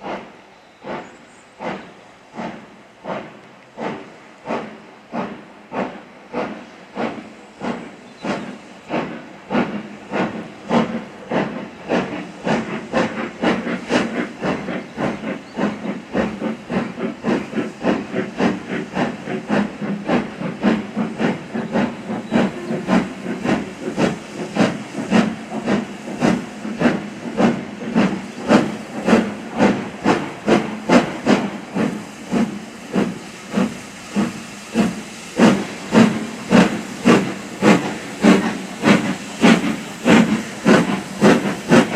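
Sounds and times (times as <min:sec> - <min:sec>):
steam locomotive exhaust beats: 0:00.0 - 0:41.9.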